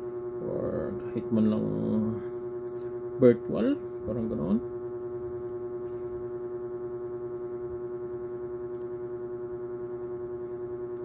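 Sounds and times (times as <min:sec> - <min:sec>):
sustained wavering drone: 0:00.0 - 0:11.0.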